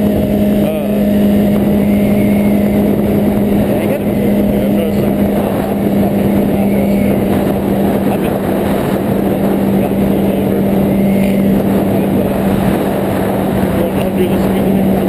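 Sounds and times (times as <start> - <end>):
motorcycle engine running steadily: 0.0 - 15.0
wind rushing on microphone: 0.0 - 15.0.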